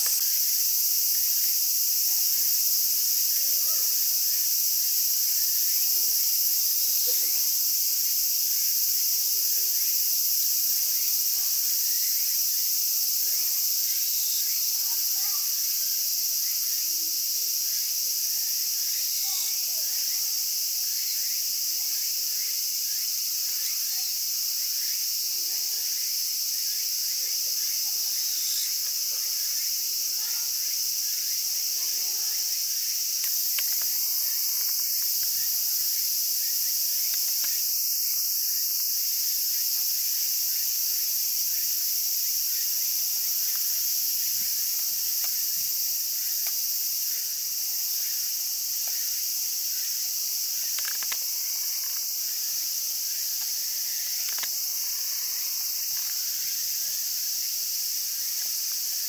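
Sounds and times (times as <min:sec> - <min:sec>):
insect chorus buzzing: 0:00.0 - 0:59.0.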